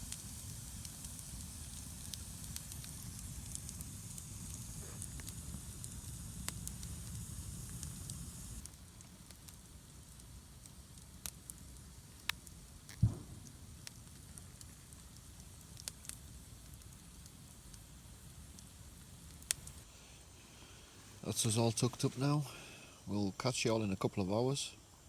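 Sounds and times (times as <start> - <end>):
campfire crackling and popping: 0.0 - 22.7
fire hiss and low rumble: 0.0 - 25.0.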